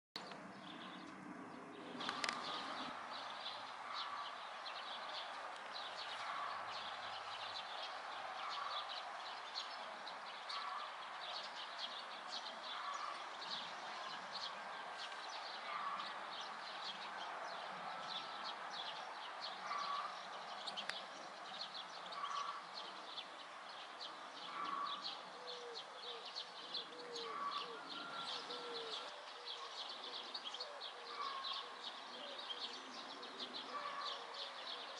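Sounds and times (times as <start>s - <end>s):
birds chirping and twittering: 0.2s - 34.9s.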